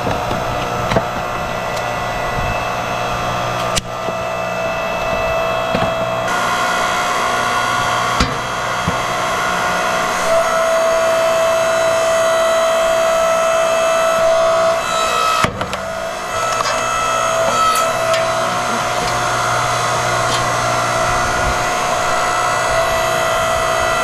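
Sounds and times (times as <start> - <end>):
hydraulic motor and pump whine: 0.0 - 24.0.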